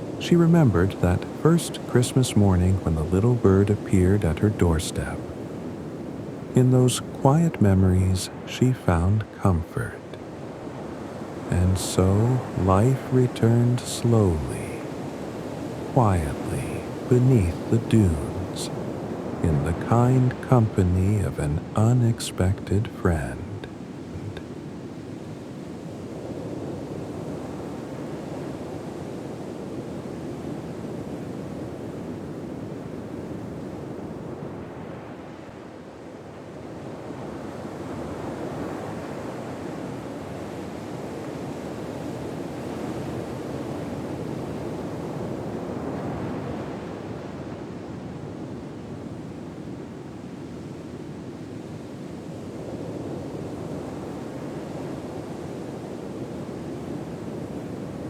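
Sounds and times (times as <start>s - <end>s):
ocean surf washing on shore: 0.0s - 58.0s.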